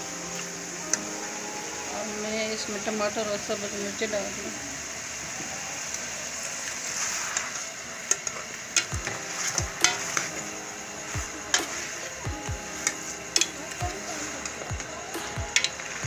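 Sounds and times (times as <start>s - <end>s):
chicken sizzling in a pot: 0.3s - 16.0s.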